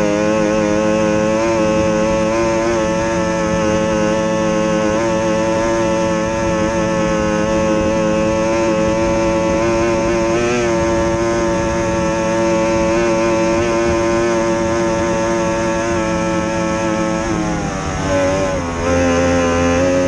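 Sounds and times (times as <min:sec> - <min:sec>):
outboard motor high-revving: 0:00.0 - 0:20.0.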